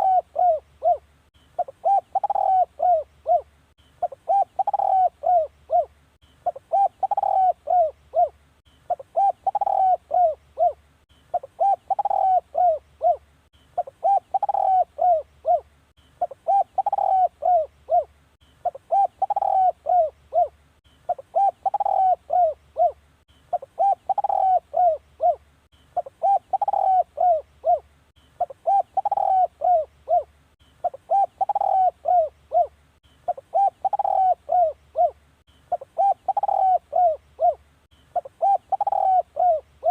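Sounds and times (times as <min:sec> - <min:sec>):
dove cooing: 0:00.0 - 0:13.2, 0:13.8 - 0:25.4, 0:26.0 - 0:39.9.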